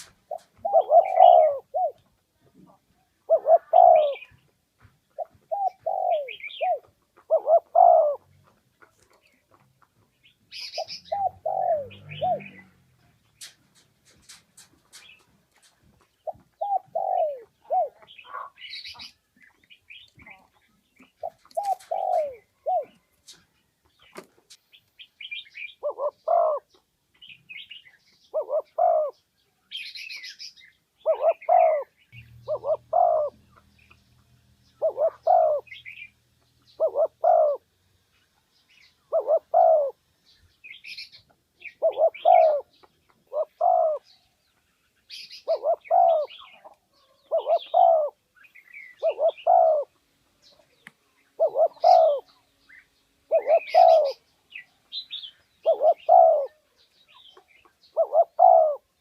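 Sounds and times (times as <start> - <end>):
dove cooing: 0.0 - 4.5, 5.1 - 9.4, 10.5 - 15.2, 16.2 - 19.2, 19.9 - 23.4, 25.2 - 34.0, 34.7 - 37.7, 39.0 - 44.3, 45.1 - 50.6, 51.4 - 52.4, 53.2 - 59.0
small birds chirping: 0.0 - 59.0.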